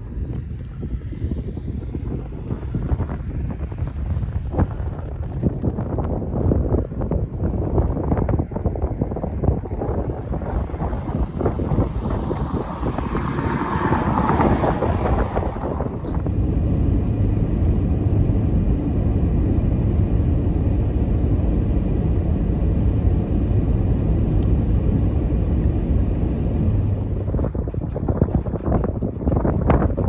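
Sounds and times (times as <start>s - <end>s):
deep low rumble: 0.0s - 30.0s
strong wind buffeting microphone: 0.0s - 30.0s.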